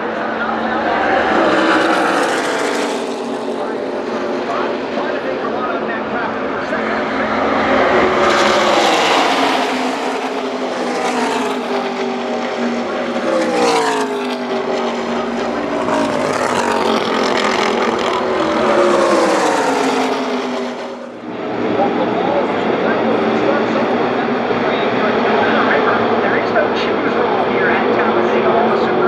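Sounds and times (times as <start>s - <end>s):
race cars passing at full speed: 0.0s - 29.0s.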